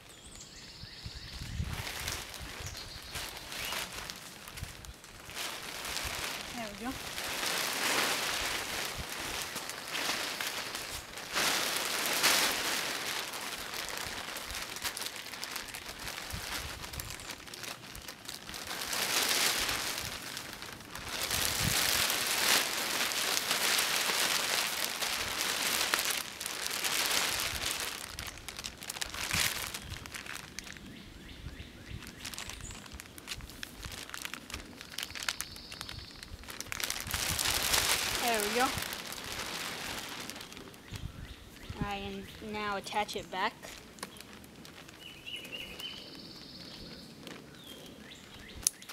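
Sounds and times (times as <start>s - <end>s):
tarp crinkling and rustling: 0.0s - 48.9s.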